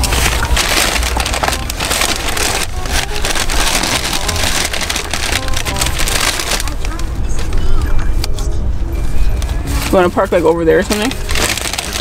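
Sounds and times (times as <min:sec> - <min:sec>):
paper bag rustling and crinkling: 0:00.0 - 0:07.9, 0:09.5 - 0:12.0
car running low hum: 0:00.0 - 0:10.0.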